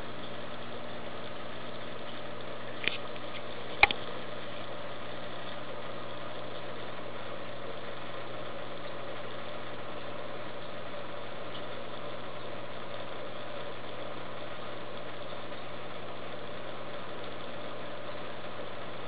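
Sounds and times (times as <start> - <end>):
aquarium pump hum: 0.0 - 19.0.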